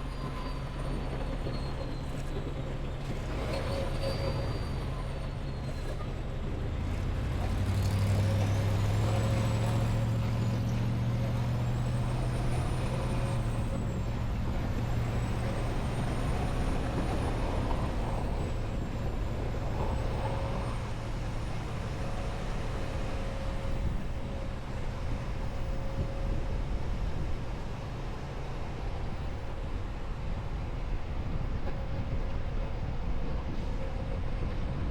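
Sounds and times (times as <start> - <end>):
semi truck engine drone: 0.0 - 34.9.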